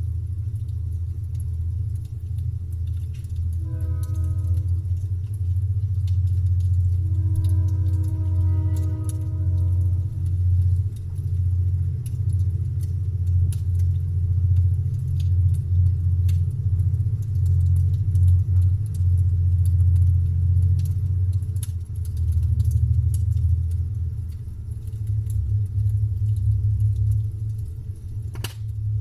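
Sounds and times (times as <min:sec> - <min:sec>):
campfire crackling and popping: 0:00.0 - 0:03.6, 0:04.5 - 0:07.1, 0:09.9 - 0:29.0
deep rumble: 0:00.0 - 0:29.0.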